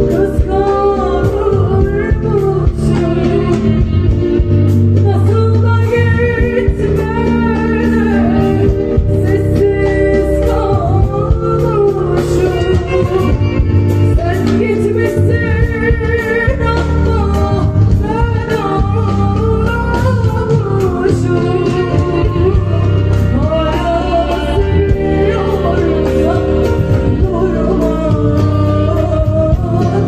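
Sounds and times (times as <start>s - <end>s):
bass notes: 0.0s - 30.0s
woman singing with vibrato: 0.0s - 30.0s.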